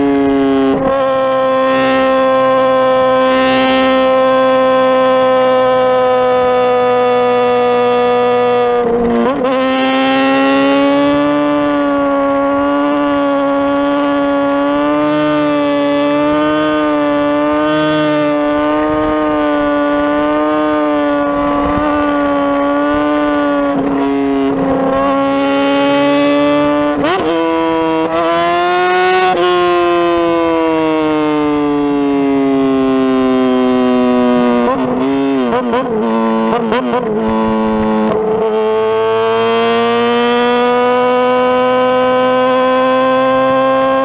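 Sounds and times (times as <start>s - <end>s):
motorcycle engine revving high: 0.0s - 44.0s.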